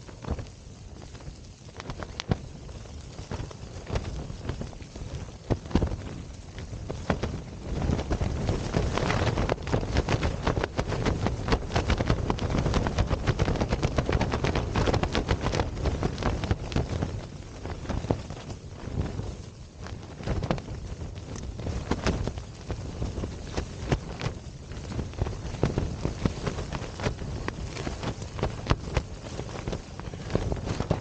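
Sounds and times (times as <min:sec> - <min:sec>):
tent fabric flapping and snapping: 0:00.0 - 0:31.0
wind rushing: 0:00.0 - 0:31.0.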